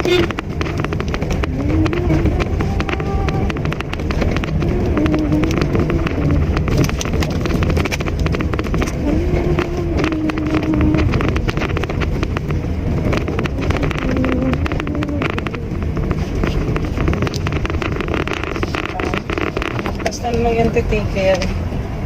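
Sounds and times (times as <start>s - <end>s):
small clicks and rattles: 0.0s - 21.6s
car engine and road rumble: 0.0s - 22.0s
wind noise: 0.0s - 22.0s.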